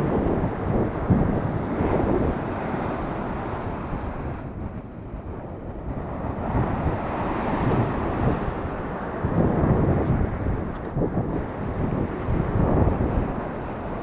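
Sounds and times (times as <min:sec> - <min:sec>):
sea surf washing onto shore: 0:00.0 - 0:14.0
wind buffeting microphone: 0:00.0 - 0:14.0.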